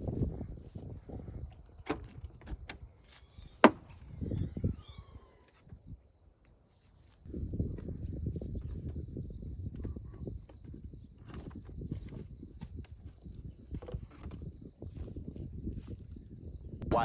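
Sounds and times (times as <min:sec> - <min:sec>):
crickets chirping: 0:00.0 - 0:16.8.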